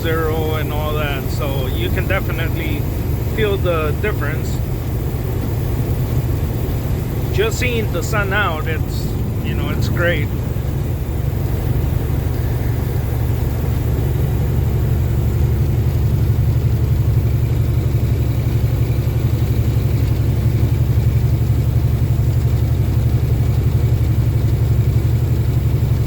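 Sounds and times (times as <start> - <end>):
diesel truck engine drone: 0.0 - 26.0.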